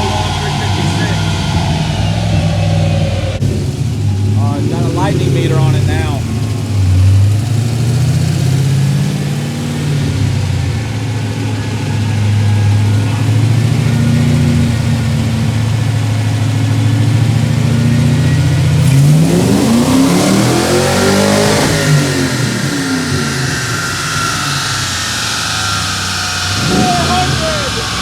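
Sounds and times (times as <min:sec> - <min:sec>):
car engine revving on dyno: 0:00.0 - 0:28.0.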